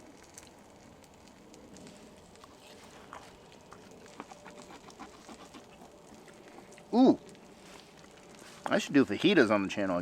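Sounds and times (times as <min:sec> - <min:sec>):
campfire crackling: 0:00.0 - 0:10.0.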